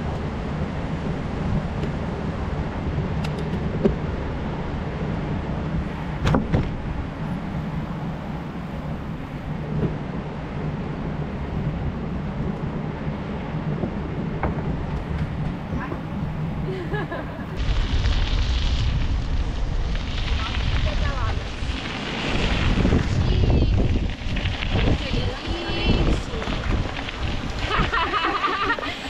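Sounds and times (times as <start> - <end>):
low rumble: 0.0 - 29.0
wind and road noise: 0.0 - 29.0.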